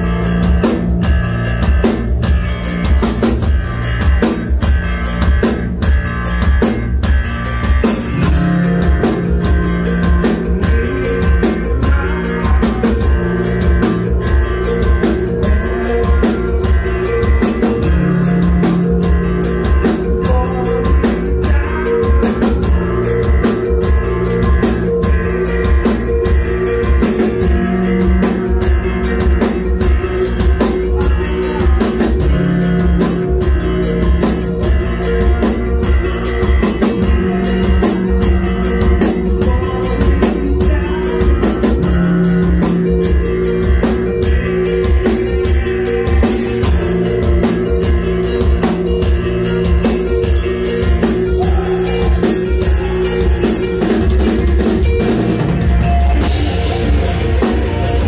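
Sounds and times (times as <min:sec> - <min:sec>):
electric guitars sustained notes: 0:00.0 - 0:58.0
rapid drum kit hits: 0:00.0 - 0:58.0.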